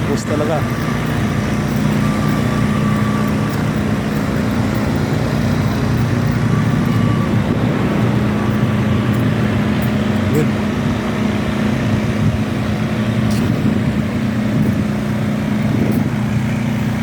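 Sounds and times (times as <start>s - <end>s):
road traffic noise: 0.0s - 17.0s
vehicle engine humming: 0.0s - 17.0s.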